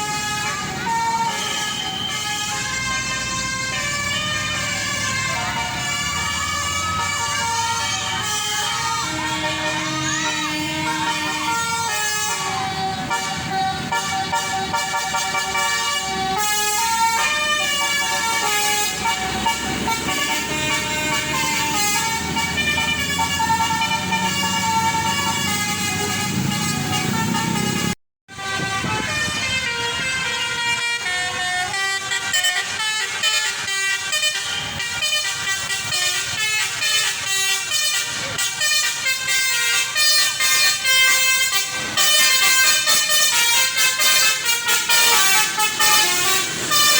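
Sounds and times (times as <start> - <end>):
bus horn melodies: 0.0 - 46.9
passing bus: 0.0 - 46.9.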